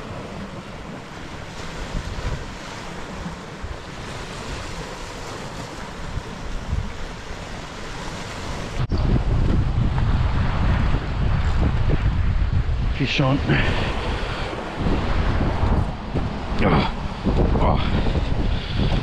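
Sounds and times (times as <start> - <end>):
waves breaking over rocks: 0.0 - 19.0
wind: 0.0 - 19.0
wind buffeting microphone: 0.0 - 19.0.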